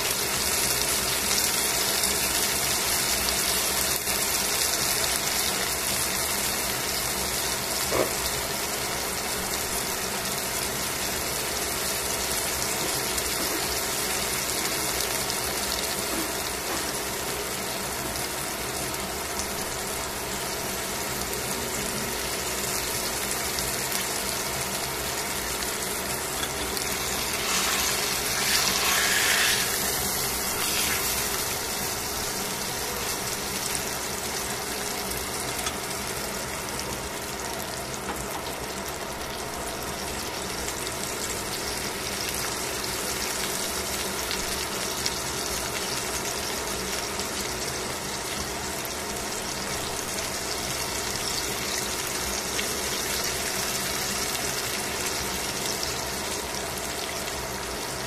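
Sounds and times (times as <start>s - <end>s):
chicken sizzling in frying pan: 0.0s - 58.0s.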